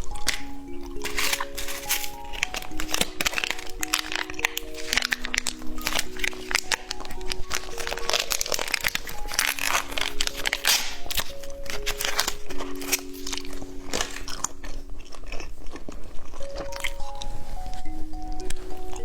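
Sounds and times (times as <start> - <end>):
crunching candy: 0.0 - 19.0
soft background music: 0.0 - 19.0.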